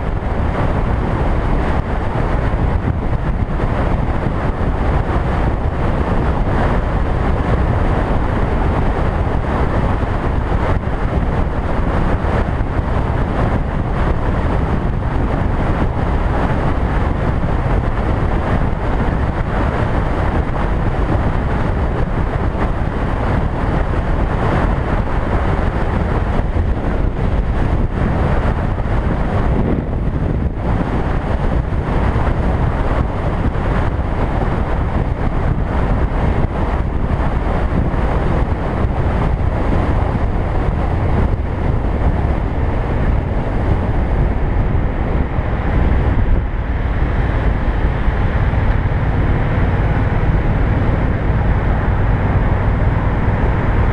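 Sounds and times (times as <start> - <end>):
road noise: 0.0 - 53.9
wind rush on microphone: 0.0 - 53.9.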